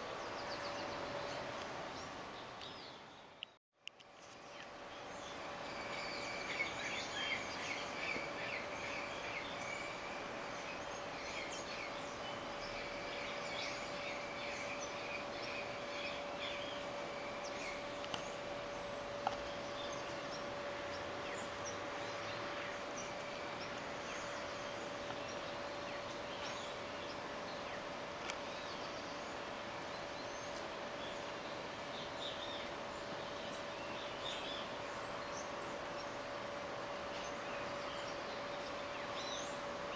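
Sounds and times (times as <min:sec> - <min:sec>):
background hiss: 0:00.0 - 0:39.9
birds chirping: 0:00.0 - 0:39.9
steady hum: 0:04.0 - 0:39.9.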